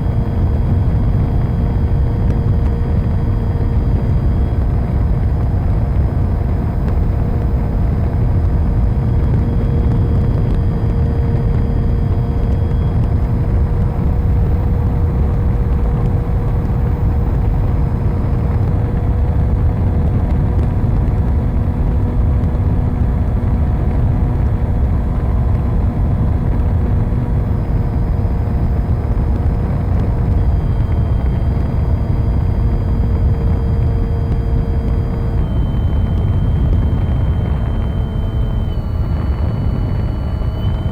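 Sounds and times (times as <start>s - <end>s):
heavy low rumble: 0.0s - 40.9s
model airplane motor and propeller: 0.0s - 40.9s.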